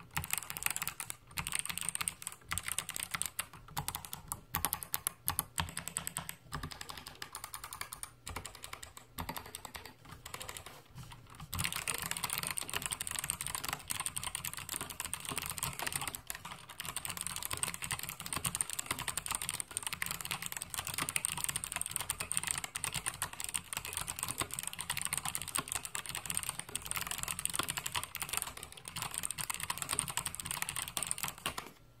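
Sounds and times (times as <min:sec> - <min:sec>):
clicky mechanical keyboard typing: 0:00.0 - 0:10.8, 0:11.4 - 0:31.8.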